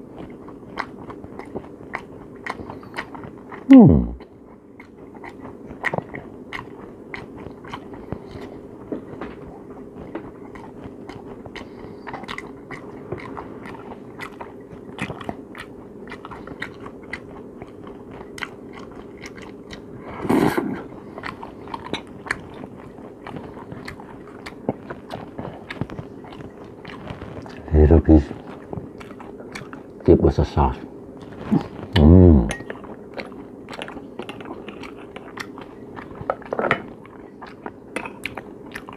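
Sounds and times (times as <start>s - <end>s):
faint steady hum: 0.0s - 38.9s
man chewing crab meat: 0.0s - 38.9s.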